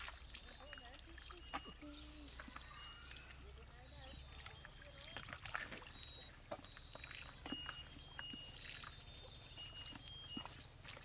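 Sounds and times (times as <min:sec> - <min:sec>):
birds whistling: 0:00.0 - 0:11.0
hands splashing in muddy water: 0:00.0 - 0:11.0.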